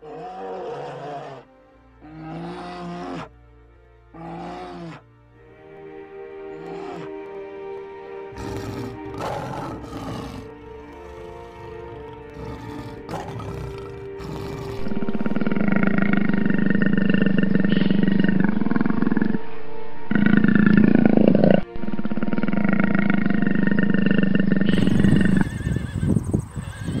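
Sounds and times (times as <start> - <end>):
large animal roaring: 0.0 - 3.3, 4.1 - 5.0, 6.5 - 7.2, 8.3 - 25.5
background music: 0.0 - 26.4.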